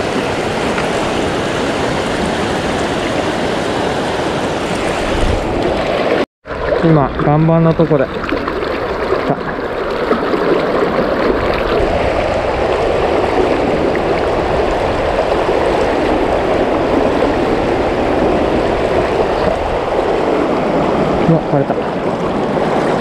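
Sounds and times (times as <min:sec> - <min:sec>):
river current rushing: 0:00.0 - 0:23.0.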